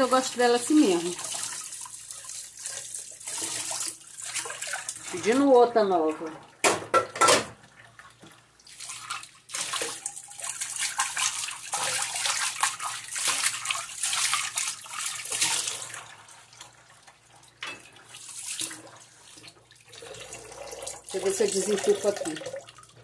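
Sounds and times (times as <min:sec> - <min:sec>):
tap water running into sink: 0:00.0 - 0:23.0.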